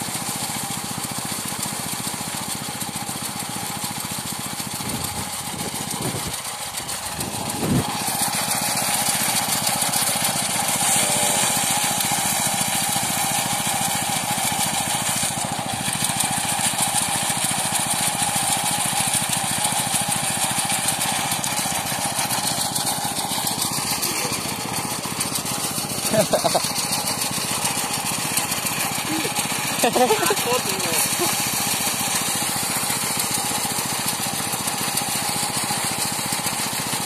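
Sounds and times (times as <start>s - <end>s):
threshing machine clatter: 0.0s - 37.0s.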